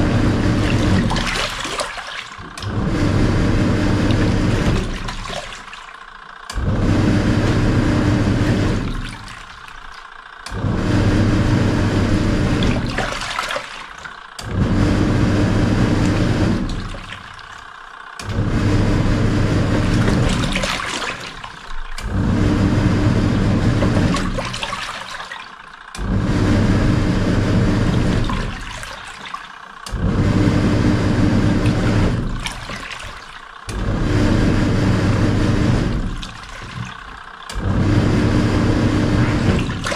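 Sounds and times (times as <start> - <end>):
washing machine motor humming: 0.0 - 39.9
water churning: 0.0 - 39.9.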